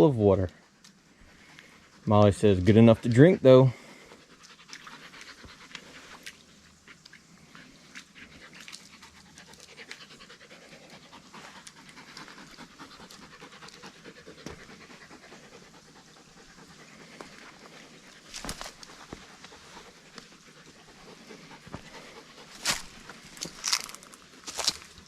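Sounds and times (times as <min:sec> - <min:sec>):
dog panting: 0:00.6 - 0:25.0.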